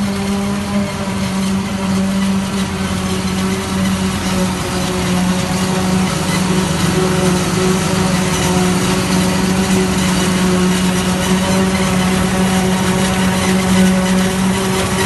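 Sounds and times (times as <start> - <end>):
diesel farm machinery running: 0.0 - 15.0.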